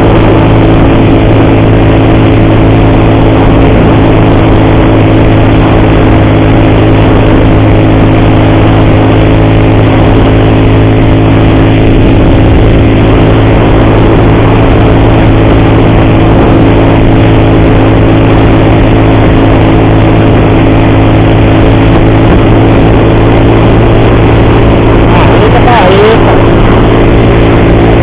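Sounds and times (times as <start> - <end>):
motorcycle engine cruising: 0.0 - 28.0
wind rush over microphone: 0.0 - 28.0.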